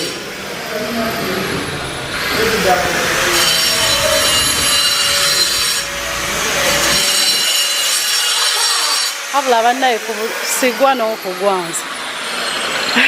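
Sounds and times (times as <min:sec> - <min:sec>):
power tool grinding stone: 0:02.1 - 0:13.0.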